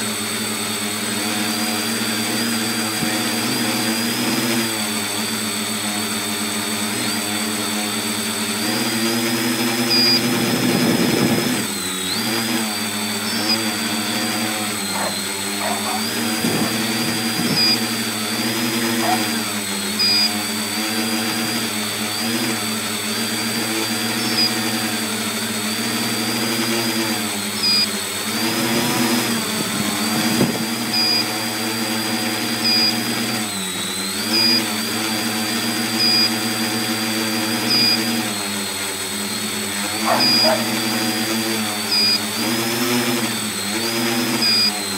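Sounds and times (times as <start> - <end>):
drone motors and propellers buzzing: 0.0 - 44.9.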